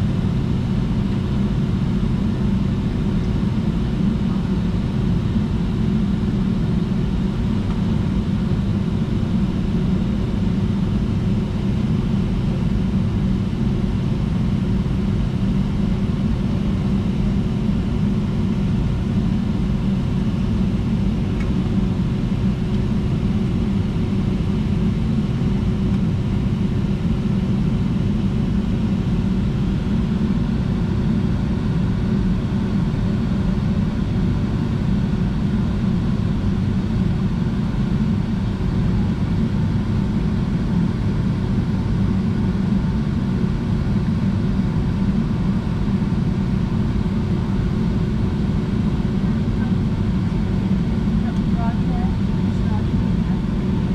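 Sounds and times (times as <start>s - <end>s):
cabin rumble of idling jet engines: 0.0s - 53.9s
faint steady hum: 0.0s - 53.9s.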